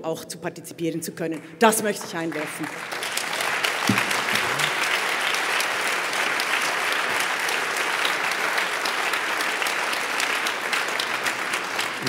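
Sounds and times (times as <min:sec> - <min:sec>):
audience applause: 0:02.2 - 0:12.0.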